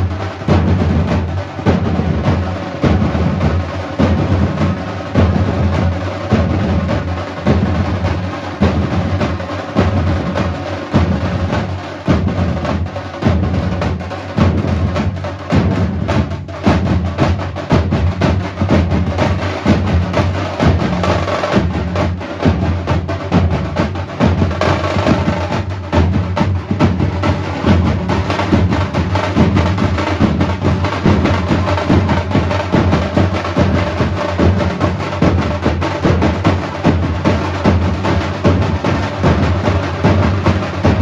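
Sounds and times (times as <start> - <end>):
loud dense drumming: 0.0 - 41.0.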